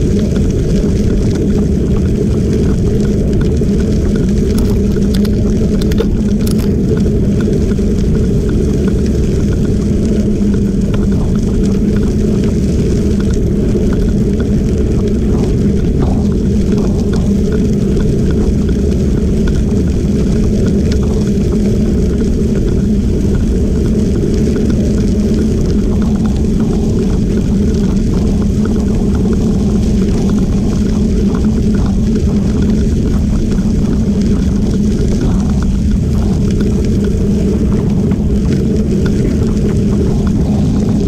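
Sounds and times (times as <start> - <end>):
gravel ticks: 0.0 - 41.0
wind buffeting microphone: 0.0 - 41.0.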